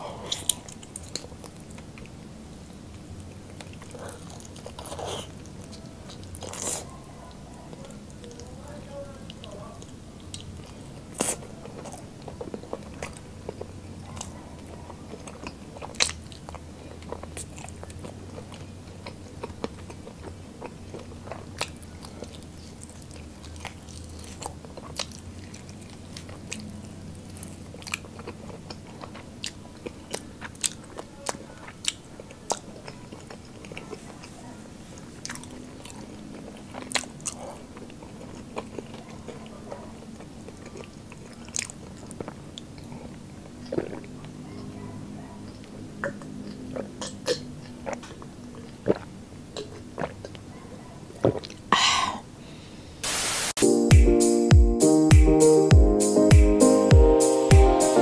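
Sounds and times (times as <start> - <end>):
mouth smacking: 0.0 - 2.2, 2.9 - 8.5, 9.3 - 50.5, 51.1 - 52.3
person chewing crunchy food: 0.0 - 8.5, 9.2 - 44.8, 45.4 - 50.5, 51.1 - 52.1.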